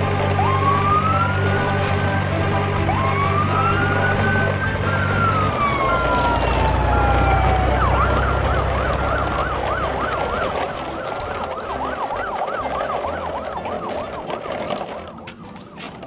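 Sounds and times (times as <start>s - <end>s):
electronic siren yelping: 0.0s - 15.8s.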